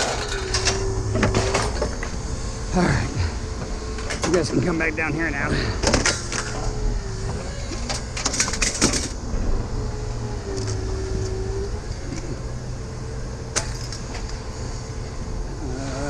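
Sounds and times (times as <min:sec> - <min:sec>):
faint wavering whine: 0:00.0 - 0:16.0
vehicle engine running: 0:00.0 - 0:16.0.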